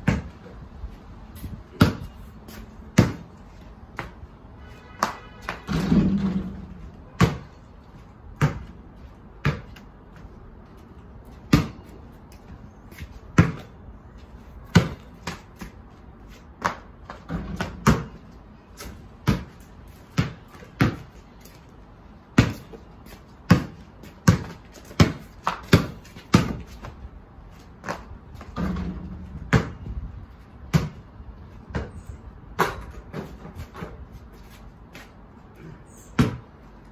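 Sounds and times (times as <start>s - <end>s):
basketball bouncing on pavement: 0.0s - 36.9s.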